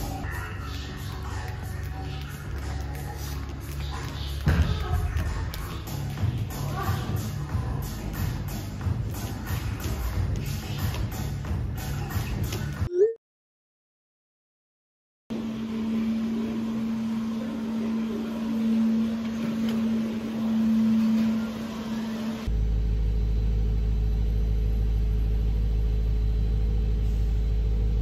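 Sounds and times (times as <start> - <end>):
steady shop hum: 0.0 - 12.8, 15.3 - 28.0.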